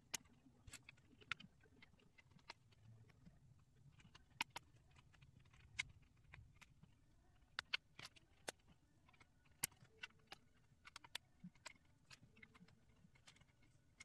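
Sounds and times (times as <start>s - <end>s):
plastic puzzle pieces clicking: 0.0s - 14.0s.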